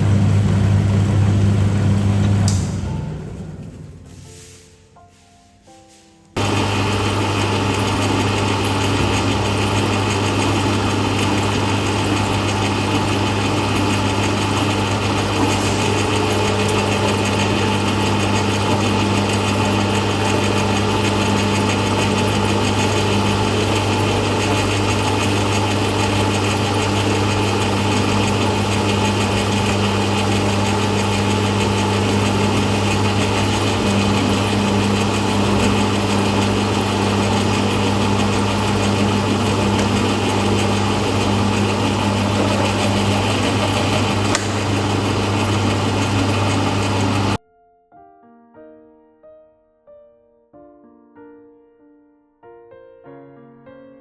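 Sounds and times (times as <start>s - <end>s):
noodle-cutting machine running: 0.0s - 4.1s, 6.4s - 47.4s.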